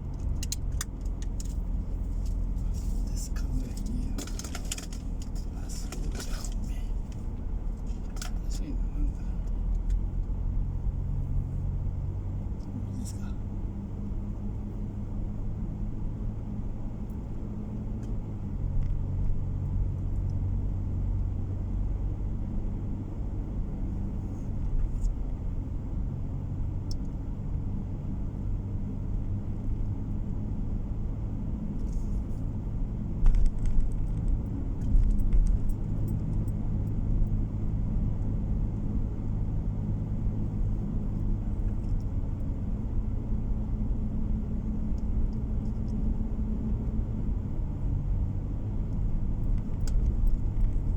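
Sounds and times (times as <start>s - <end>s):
car cabin road and engine drone: 0.0s - 50.9s.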